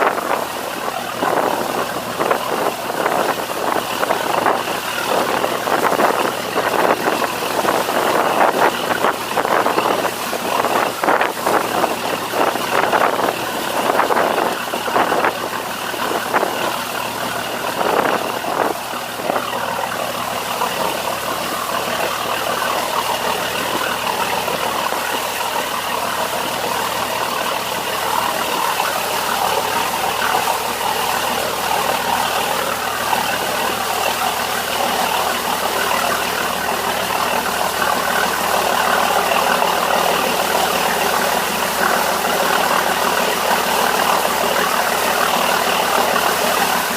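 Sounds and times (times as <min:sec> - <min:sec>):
boat engine running: 0:00.0 - 0:46.9
water hissing: 0:00.0 - 0:46.9.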